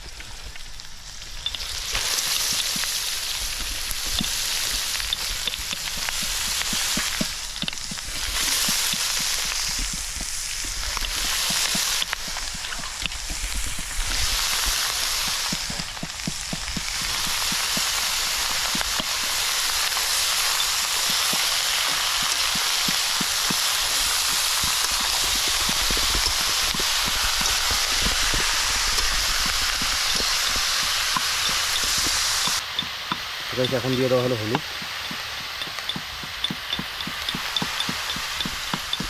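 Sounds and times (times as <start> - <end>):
meat sizzling in hot oil: 0.0 - 39.0.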